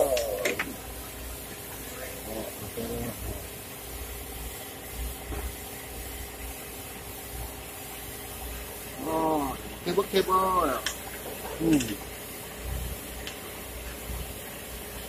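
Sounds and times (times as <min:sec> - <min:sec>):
workshop rumble and hiss: 0:00.0 - 0:15.0.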